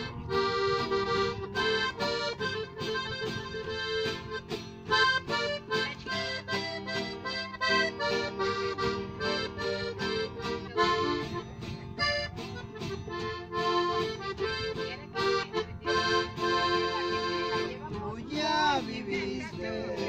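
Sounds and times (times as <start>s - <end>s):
accordion melody: 0.0s - 20.0s
acoustic guitar strumming: 0.0s - 20.0s.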